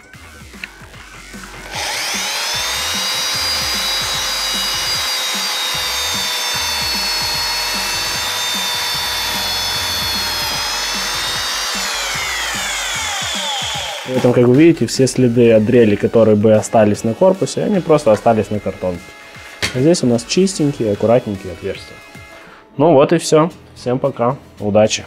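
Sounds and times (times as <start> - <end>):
electric drill whining: 0.0 - 22.6.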